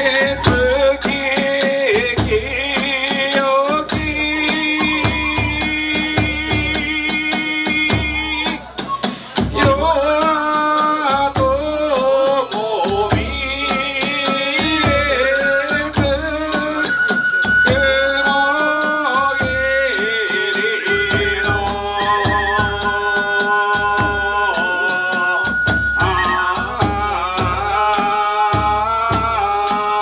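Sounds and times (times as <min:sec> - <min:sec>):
bamboo flute melody: 0:00.0 - 0:02.0, 0:04.4 - 0:10.9, 0:12.3 - 0:30.0
low drum beats: 0:00.0 - 0:30.0.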